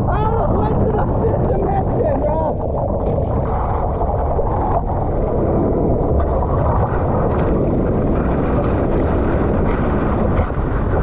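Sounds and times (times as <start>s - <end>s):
ocean water rushing: 0.0s - 11.0s
whitewater splashing: 0.0s - 11.0s
wind buffeting microphone: 0.0s - 11.0s.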